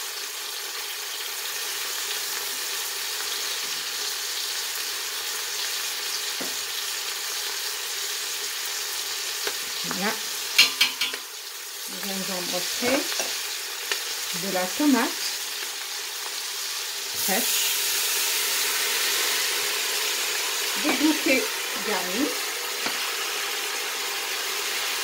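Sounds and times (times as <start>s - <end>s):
food sizzling in a pot: 0.0s - 25.0s.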